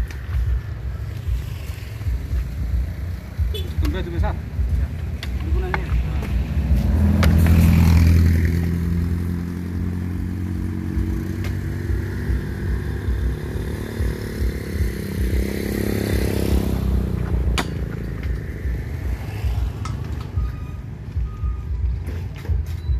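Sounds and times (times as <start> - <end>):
vehicles passing: 0.0 - 22.9.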